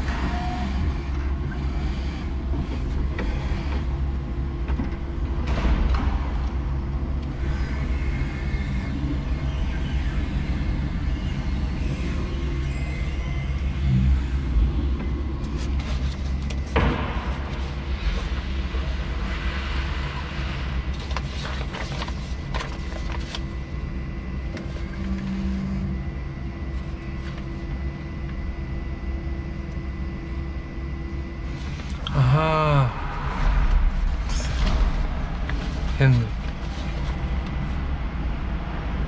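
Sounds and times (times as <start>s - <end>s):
forklift low rumble: 0.0s - 39.0s
faint high whine: 6.0s - 39.0s.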